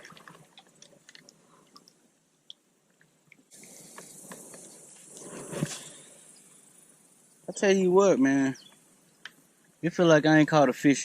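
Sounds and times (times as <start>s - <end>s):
water dripping: 0.0s - 9.8s
steady high hiss: 0.0s - 11.0s.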